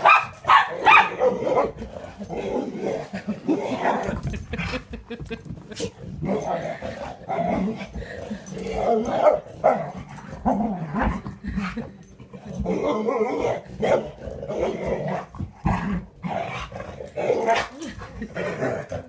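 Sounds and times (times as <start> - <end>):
dogs growling and barking: 0.0 - 19.0.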